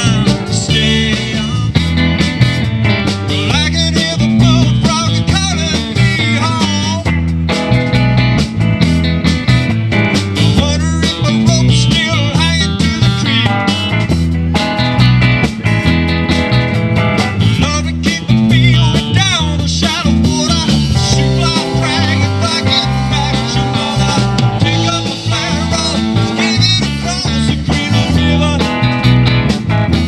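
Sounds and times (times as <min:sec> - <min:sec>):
lead guitar with bent notes: 0:00.0 - 0:30.0
rock band playing: 0:00.0 - 0:30.0.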